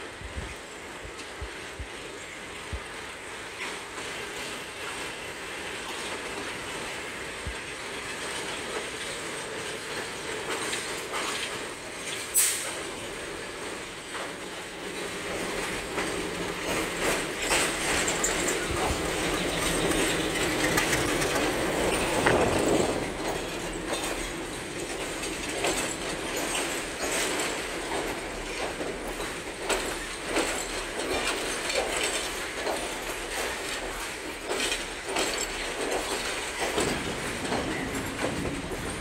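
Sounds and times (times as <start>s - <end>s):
wheels knocking over rail joints: 7.4s - 39.0s.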